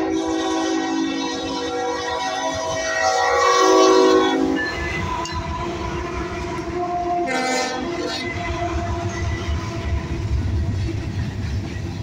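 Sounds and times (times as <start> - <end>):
train horn blast: 0.0 - 10.8
diesel locomotives rumbling past: 0.0 - 12.0.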